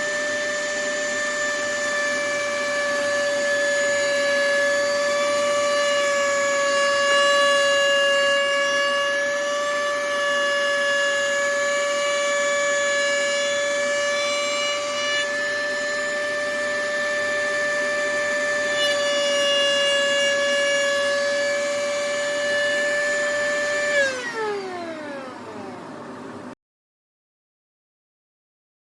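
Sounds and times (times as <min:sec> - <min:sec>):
router motor whining: 0:00.0 - 0:26.6.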